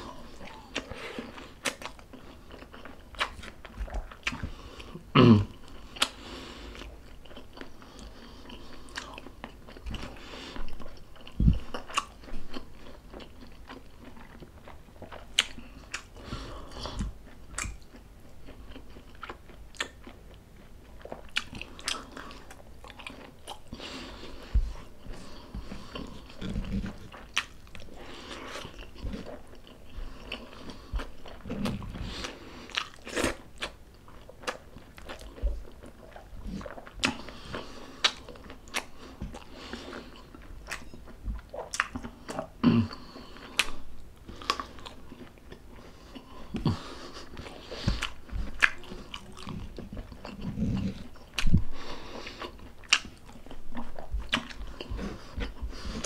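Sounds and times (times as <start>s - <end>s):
chewing and biting food: 0.0s - 56.0s.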